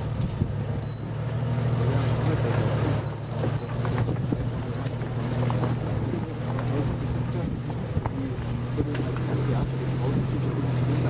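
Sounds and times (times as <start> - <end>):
car engine running: 0.0 - 11.0
tyres crunching over gravel: 0.0 - 11.0.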